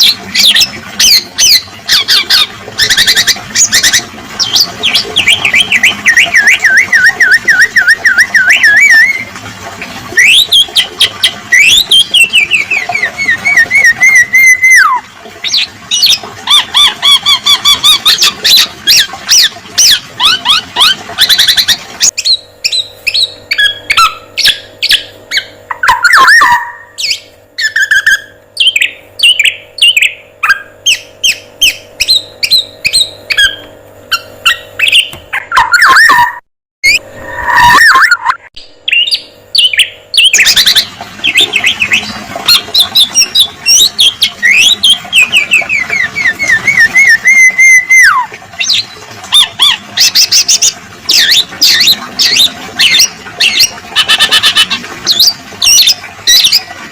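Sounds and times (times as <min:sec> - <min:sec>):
oriole song trills and chirps: 0:00.0 - 0:09.3, 0:10.1 - 0:56.8
steady hum: 0:00.0 - 0:35.8, 0:36.8 - 0:56.9.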